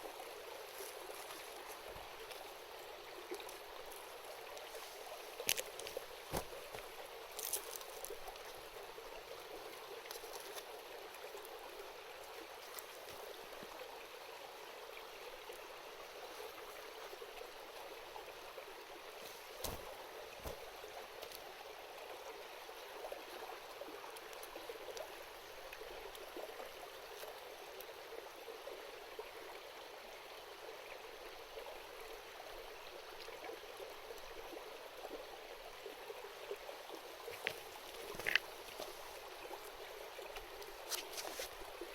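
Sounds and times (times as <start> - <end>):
stream babbling: 0.0 - 41.9.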